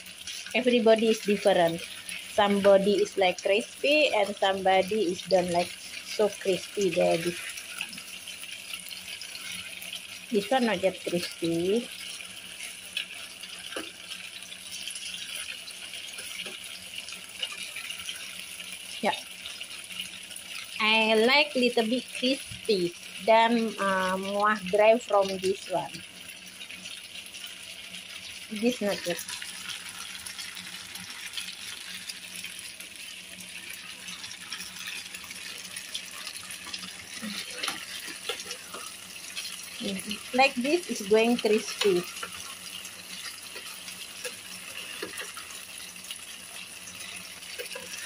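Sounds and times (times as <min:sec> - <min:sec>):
eggs sizzling in hot oil: 0:00.0 - 0:48.0.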